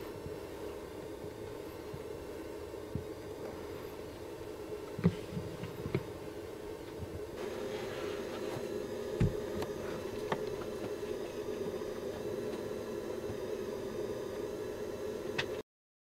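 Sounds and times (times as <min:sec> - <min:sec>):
droning hum: 0:00.0 - 0:15.6.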